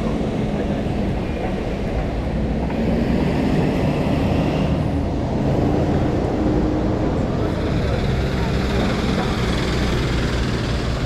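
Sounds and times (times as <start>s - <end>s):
motor traffic hum: 0.0s - 11.0s.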